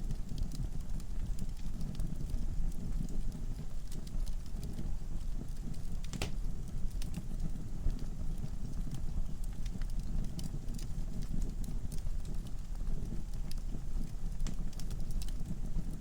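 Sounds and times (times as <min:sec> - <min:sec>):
fire burning with low rumble: 0:00.0 - 0:16.0
logs crackling and popping: 0:00.0 - 0:16.0.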